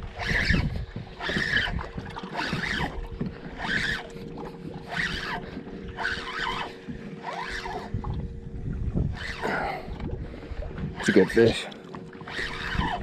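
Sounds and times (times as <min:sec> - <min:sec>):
faint steady hum: 0:00.0 - 0:13.0
waves lapping against boat hull: 0:00.0 - 0:13.0.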